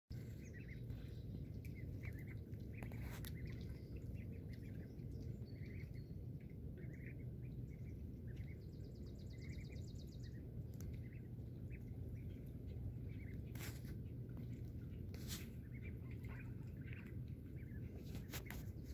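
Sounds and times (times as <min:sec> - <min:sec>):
steady low rumble: 0:00.1 - 0:18.9
ducklings peeping: 0:00.2 - 0:18.9.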